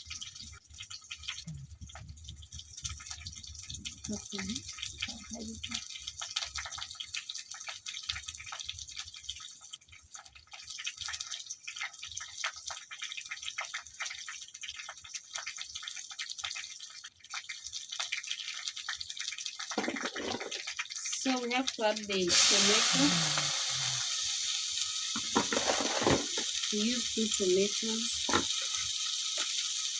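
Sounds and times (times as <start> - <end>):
onions frying in oil: 0.0 - 29.9.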